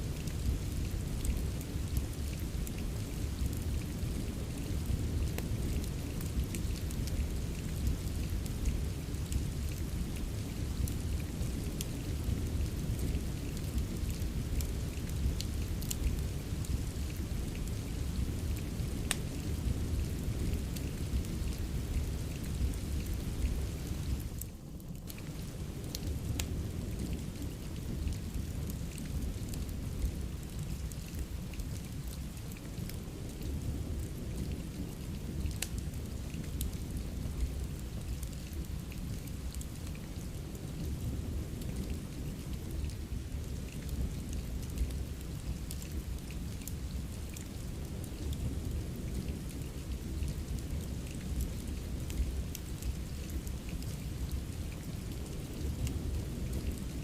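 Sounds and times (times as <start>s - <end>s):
rain falling: 0.0s - 57.0s
wood fire crackling: 0.0s - 57.0s.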